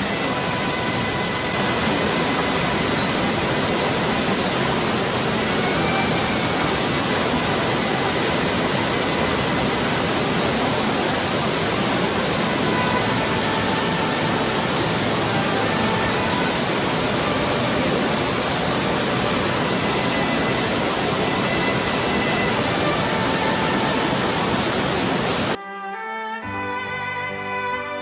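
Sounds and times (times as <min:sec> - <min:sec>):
stream rushing over rocks: 0:00.0 - 0:25.6.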